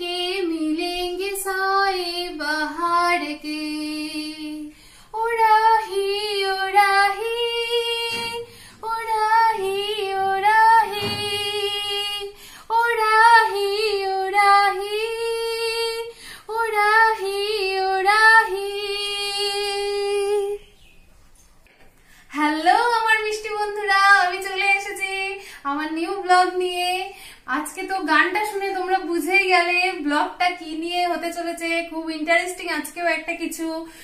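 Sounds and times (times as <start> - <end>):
woman singing unaccompanied: 0.0 - 20.7, 22.3 - 33.9.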